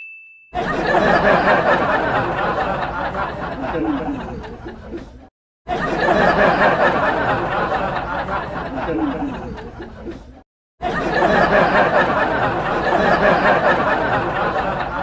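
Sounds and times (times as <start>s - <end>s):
canned audience laughter: 0.6s - 15.0s.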